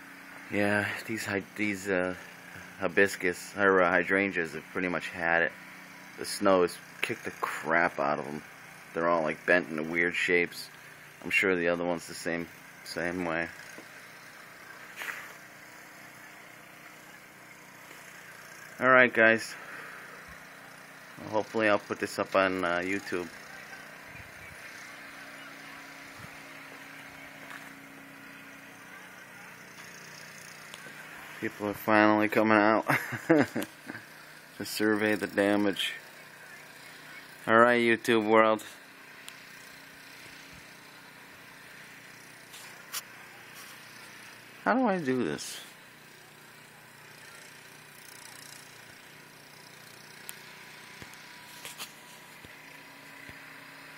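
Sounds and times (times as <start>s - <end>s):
faint engine running: 0.0s - 53.9s
outdoor noise hiss: 0.0s - 53.9s.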